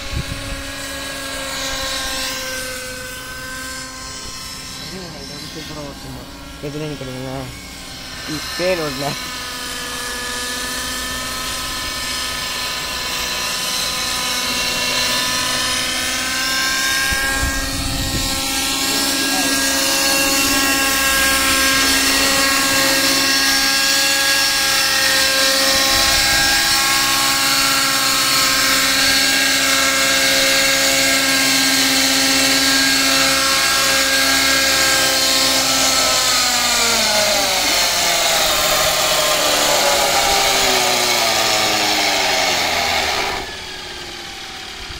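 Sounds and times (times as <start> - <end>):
model helicopter engine and rotor: 0.0 - 44.9.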